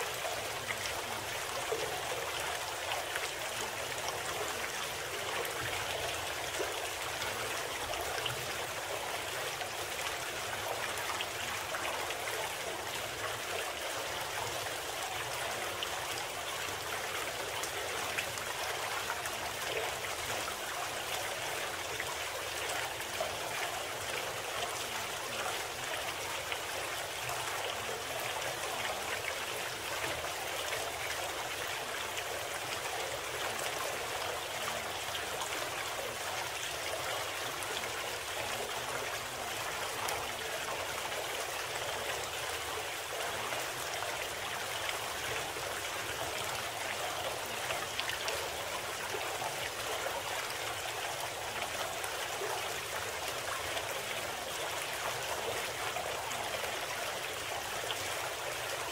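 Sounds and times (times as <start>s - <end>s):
stream of running water: 0.0s - 58.9s.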